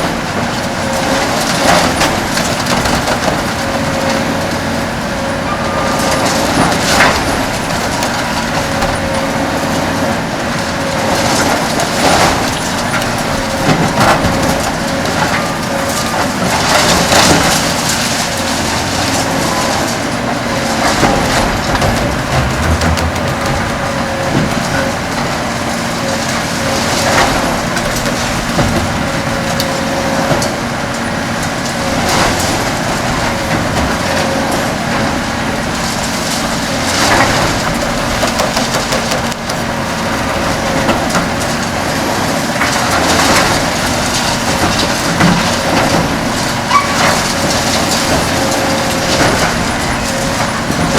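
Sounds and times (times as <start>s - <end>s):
diesel engine and hydraulics humming: 0.0s - 50.9s
concrete cracking and crunching: 5.9s - 50.9s.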